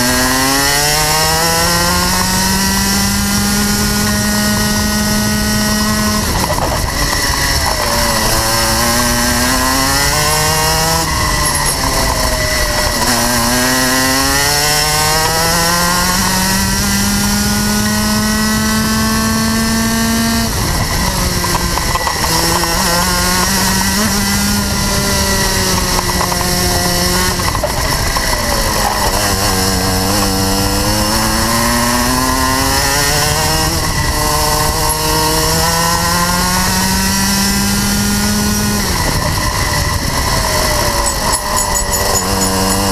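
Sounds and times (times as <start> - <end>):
kart engine revving: 0.0 - 42.9.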